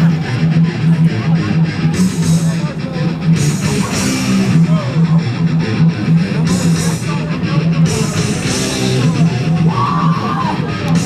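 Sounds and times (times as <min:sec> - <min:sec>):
heavy rock music: 0:00.0 - 0:11.0.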